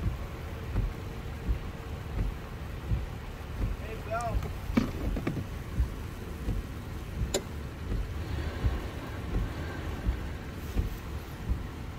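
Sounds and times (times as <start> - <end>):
car engine running: 0.0 - 11.9
wind buffeting microphone: 0.0 - 11.9.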